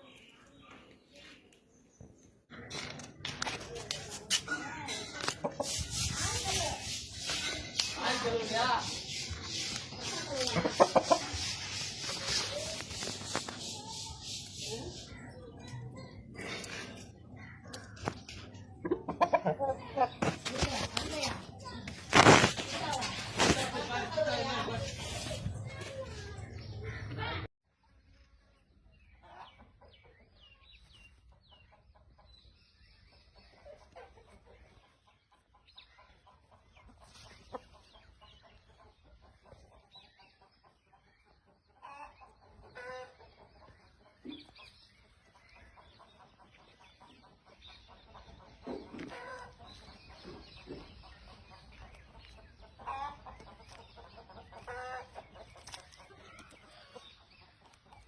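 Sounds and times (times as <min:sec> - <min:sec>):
chickens clucking: 0:02.5 - 0:27.5, 0:29.0 - 0:58.0.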